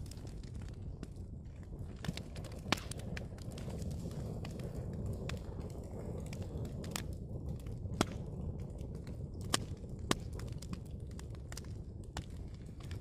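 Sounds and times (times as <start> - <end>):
fire crackles and pops: 0.0 - 13.0
wood fire rumbling: 0.0 - 13.0.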